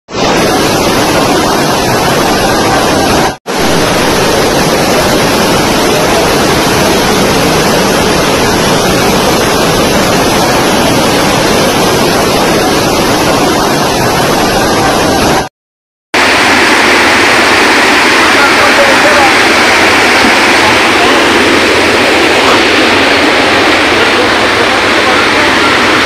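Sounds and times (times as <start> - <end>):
floodwater rushing: 0.1 - 15.5, 16.2 - 26.0
heavy rain: 0.1 - 15.5, 16.2 - 26.0.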